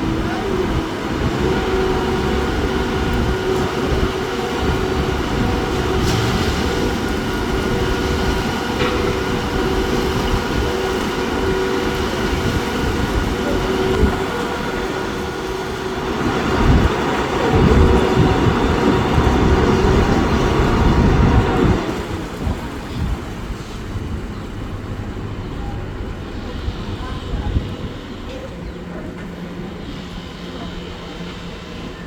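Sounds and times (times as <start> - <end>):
constant hum: 0.0 - 32.0
steady mechanical rumble: 0.0 - 32.0.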